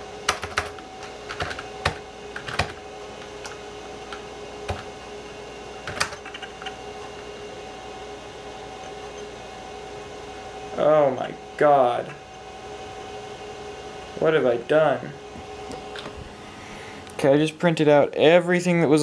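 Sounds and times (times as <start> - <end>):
computer hum: 0.0 - 19.0.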